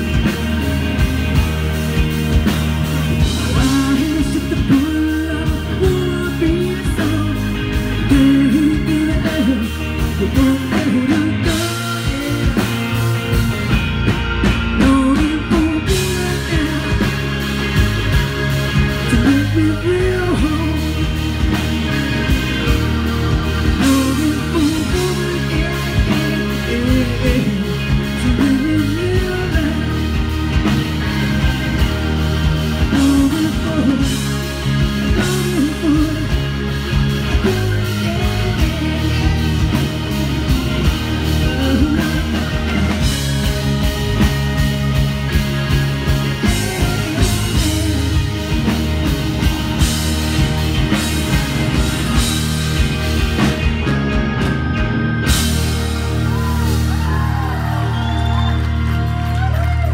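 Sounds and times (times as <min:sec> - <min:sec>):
lead guitar line bending: 0:00.0 - 0:59.9
live rock band playing: 0:00.0 - 0:59.9.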